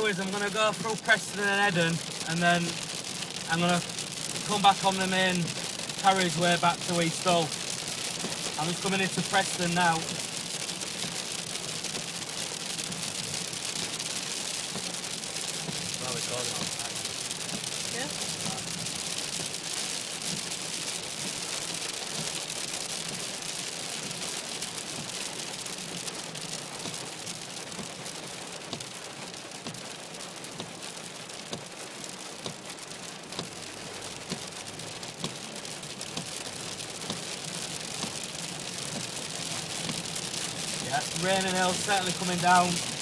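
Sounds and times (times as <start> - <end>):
rain and hail on car roof: 0.0 - 43.0.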